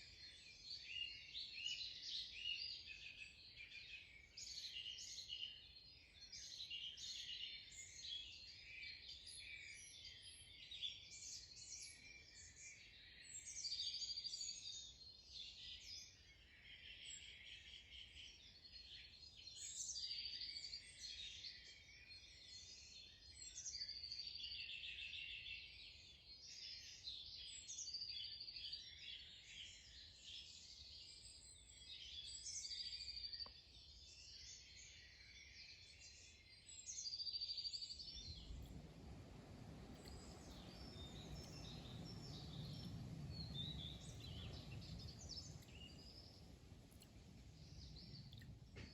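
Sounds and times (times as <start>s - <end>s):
songbirds calling and singing: 0.0s - 48.9s.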